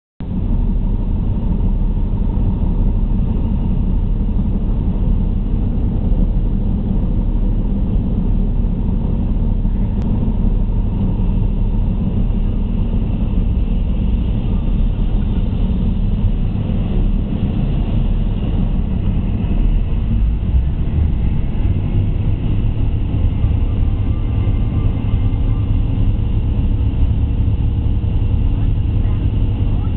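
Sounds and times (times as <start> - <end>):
hovercraft engines low rumble: 0.2 - 29.9
high-pitched whine: 0.3 - 29.9.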